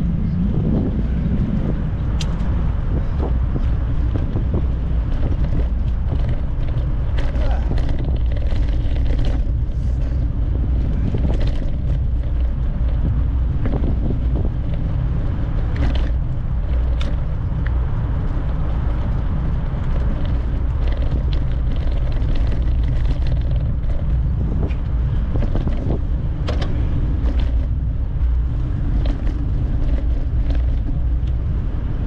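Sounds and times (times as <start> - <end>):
wind buffeting microphone: 0.0 - 32.0
bicycle clicks and rattles: 0.9 - 32.0.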